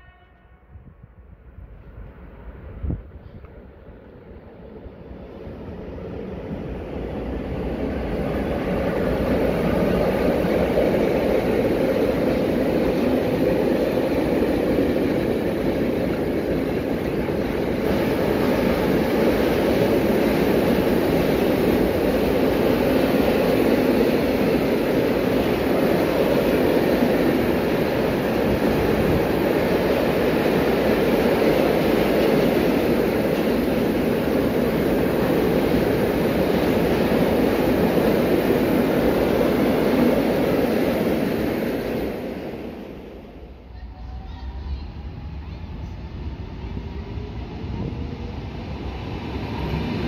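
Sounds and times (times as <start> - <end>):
freight wagons rumbling on rails: 1.6 - 50.0.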